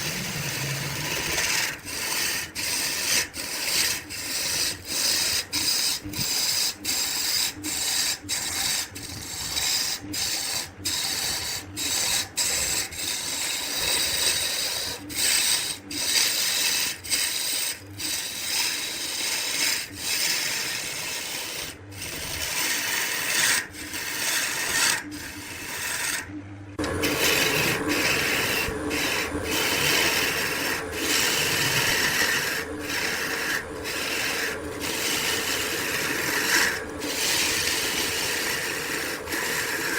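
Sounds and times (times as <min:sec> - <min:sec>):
lathe tool scraping wood: 0:00.0 - 0:39.9.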